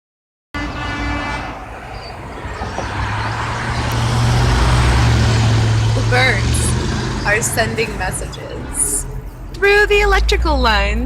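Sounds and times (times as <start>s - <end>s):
motor vehicle drone: 0.8s - 10.6s.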